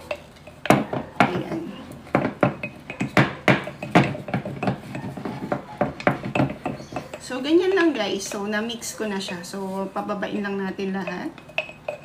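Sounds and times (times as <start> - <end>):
wooden spoon tapping glass jar: 0.0 - 12.0.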